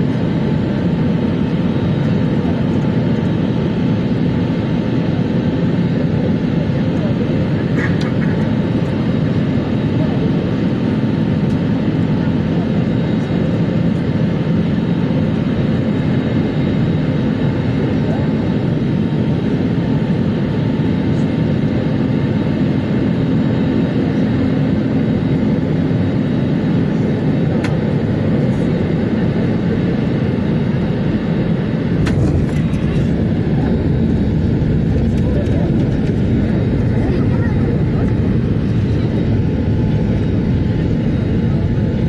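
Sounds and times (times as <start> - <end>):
aircraft cabin roar: 0.0 - 42.0
faint jet engine whine: 0.0 - 42.0.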